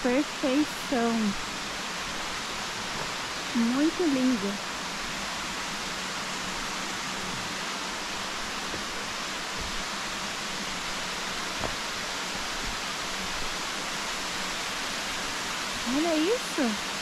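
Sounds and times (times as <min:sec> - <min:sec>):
waterfall and stream rushing: 0:00.0 - 0:17.0.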